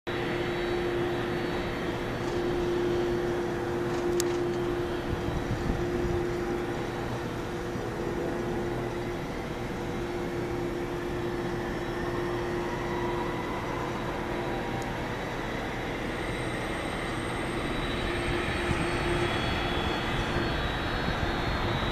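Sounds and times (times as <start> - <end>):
distant jet engines humming: 0.1 - 21.9.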